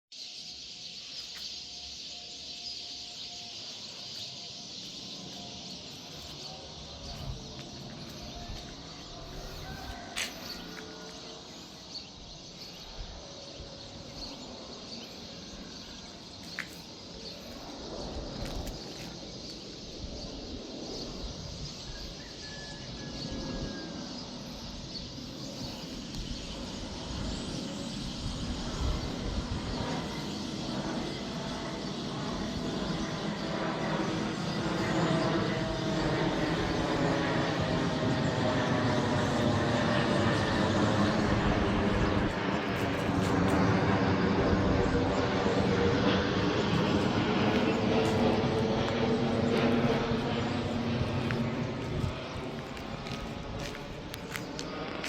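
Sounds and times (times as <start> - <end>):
outdoor background noise: 0.1 - 55.0
birds chirping: 0.2 - 55.0
jet rumble: 3.6 - 55.0.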